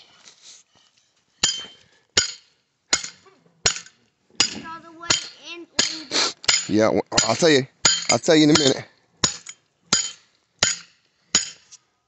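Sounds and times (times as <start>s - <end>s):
hammer striking metal stake: 1.4s - 11.8s.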